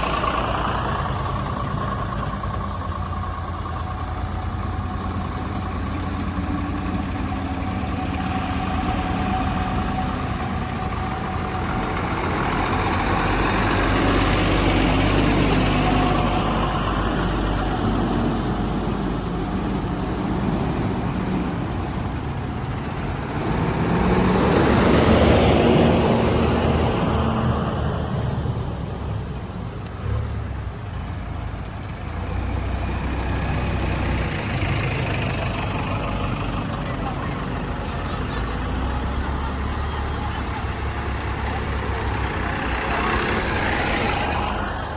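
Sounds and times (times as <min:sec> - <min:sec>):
heavy diesel engines running: 0:00.0 - 0:44.9.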